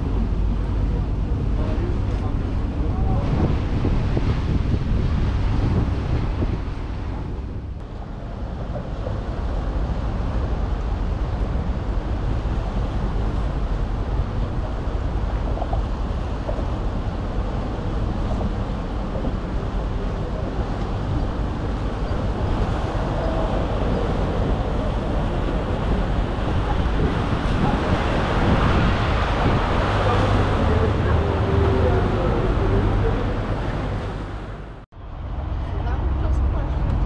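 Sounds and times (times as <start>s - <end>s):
boat engine running: 0.0s - 37.0s
water rushing past hull: 0.0s - 37.0s
wind buffeting microphone: 0.0s - 37.0s.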